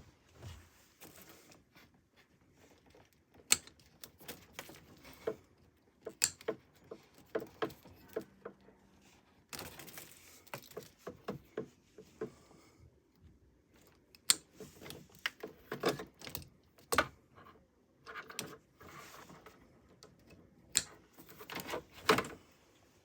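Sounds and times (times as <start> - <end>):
clicks and knocks of handling: 1.0 - 8.8, 9.4 - 12.5, 13.1 - 22.5.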